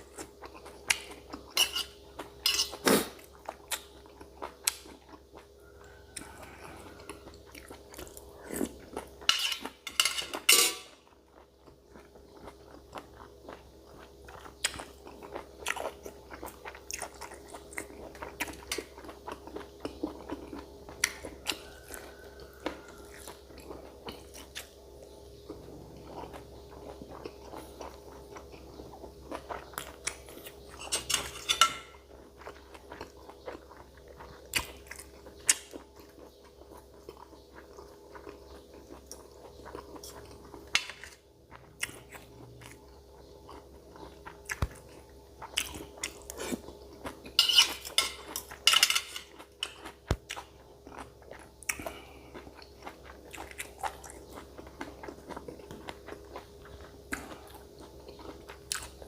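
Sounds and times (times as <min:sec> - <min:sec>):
faint steady hum: 0:00.0 - 0:59.0
wet chewing and crunching: 0:00.0 - 0:59.0.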